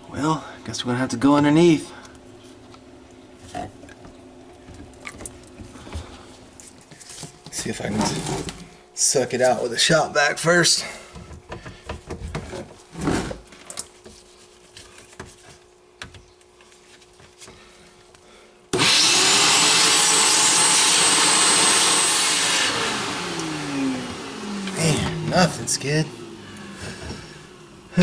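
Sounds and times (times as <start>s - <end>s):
shop vac running: 0.0s - 2.7s, 4.4s - 13.6s, 17.4s - 28.0s.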